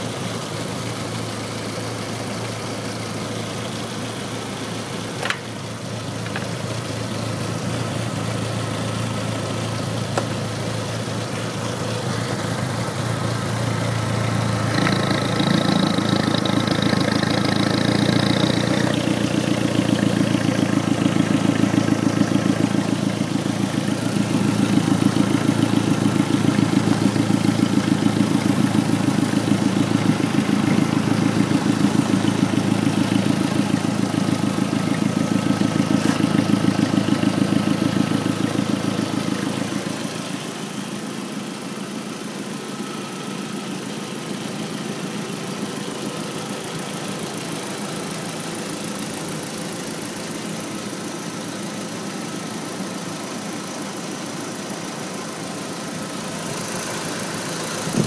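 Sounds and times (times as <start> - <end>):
car engine idling roughly: 0.0 - 58.0.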